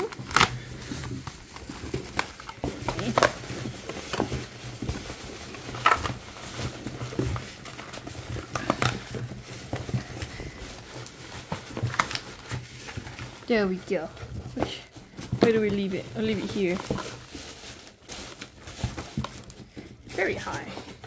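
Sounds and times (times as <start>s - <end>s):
cardboard and foil packs rustling: 0.0s - 21.0s.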